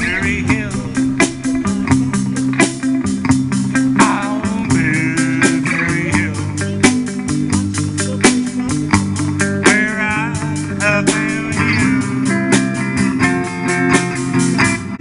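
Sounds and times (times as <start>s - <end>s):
bass line: 0.0s - 13.8s
steady drum beat: 0.0s - 14.4s
electric guitar lead with bent notes: 0.0s - 15.0s.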